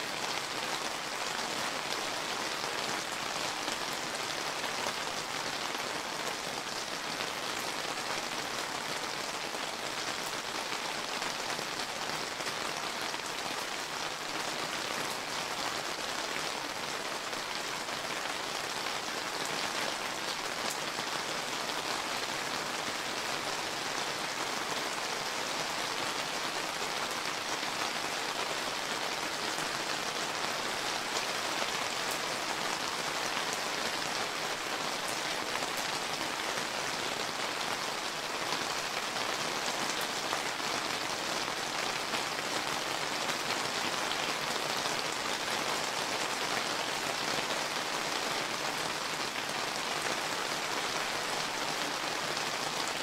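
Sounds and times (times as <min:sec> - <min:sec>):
rain pattering: 0:00.0 - 0:53.0.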